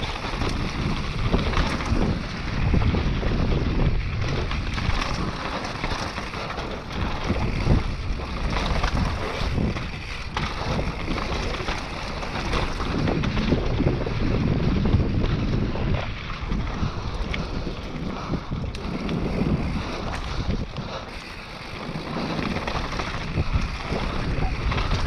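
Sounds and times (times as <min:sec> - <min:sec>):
bike knocking and rattling: 0:00.0 - 0:25.0
tyre roar on dirt: 0:00.0 - 0:25.0
wind rushing over microphone: 0:00.0 - 0:25.0.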